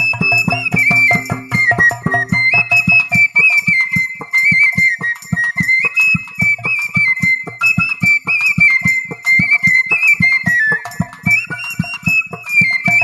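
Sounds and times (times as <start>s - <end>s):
bamboo flute melody: 0.0s - 13.0s
hand drum beat: 0.0s - 13.0s.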